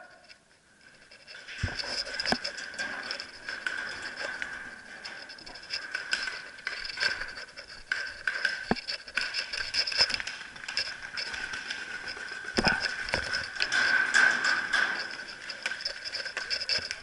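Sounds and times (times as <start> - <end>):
gear rattling: 0.2 - 17.0.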